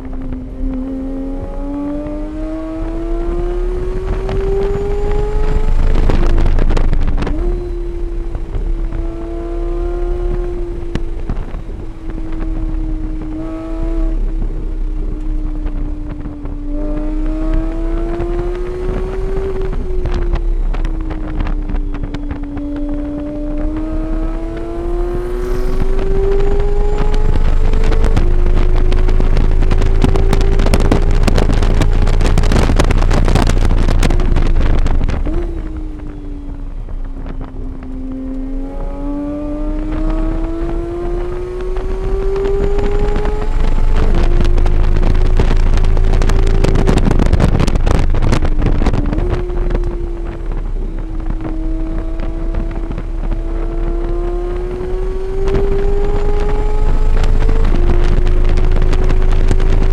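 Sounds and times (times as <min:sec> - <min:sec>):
race car engine revving: 0:00.0 - 0:59.9
wind rushing over microphone: 0:00.0 - 0:59.9.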